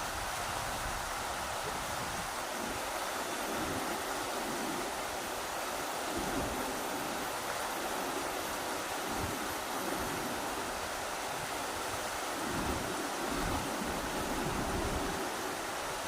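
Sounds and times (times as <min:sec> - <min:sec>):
river water rushing: 0:00.0 - 0:16.0
wind rumbling on microphone: 0:00.0 - 0:16.0.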